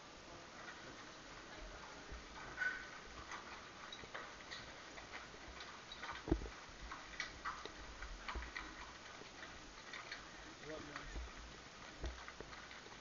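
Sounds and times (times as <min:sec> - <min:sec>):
horse hooves clicking and knocking: 0:00.5 - 0:13.0.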